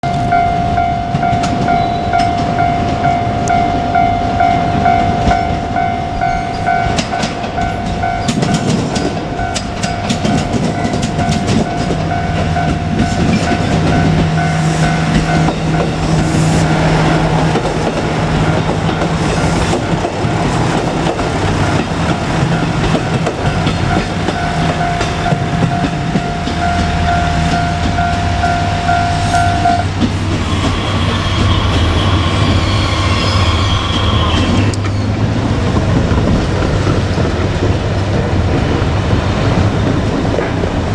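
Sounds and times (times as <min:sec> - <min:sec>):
wheels clicking over rail joints: 0:00.0 - 0:33.2, 0:33.9 - 0:40.9
level-crossing alarm ringing: 0:00.0 - 0:34.8
railcar engine drone: 0:00.0 - 0:40.9.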